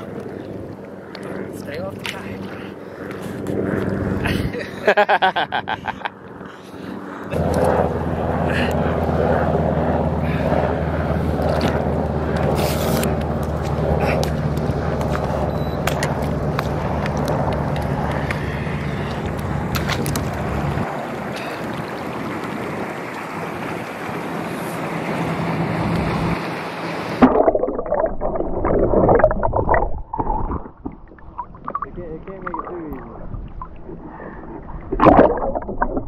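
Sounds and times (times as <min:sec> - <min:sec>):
steady low hum: 0:00.0 - 0:36.0
wind: 0:00.0 - 0:36.0.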